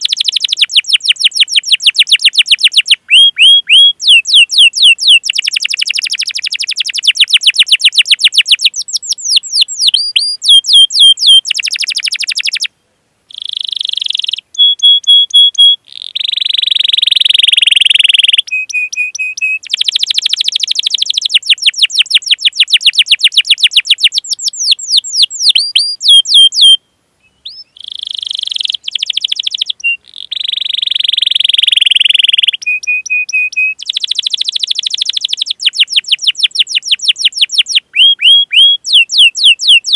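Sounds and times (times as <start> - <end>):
canary singing: 0.0 - 12.7, 13.3 - 39.9.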